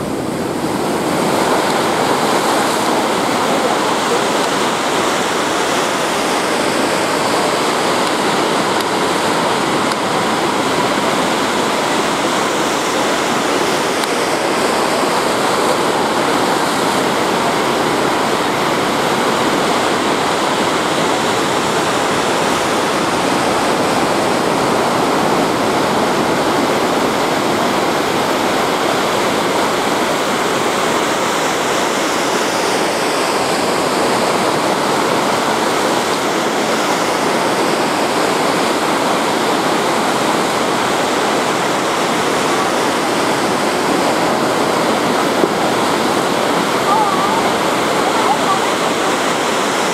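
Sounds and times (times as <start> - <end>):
ocean surf rushing: 0.0 - 49.9.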